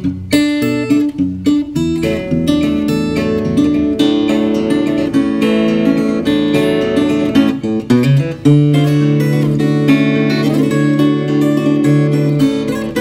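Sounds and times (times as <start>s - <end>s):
fingerstyle acoustic guitar: 0.0s - 13.0s.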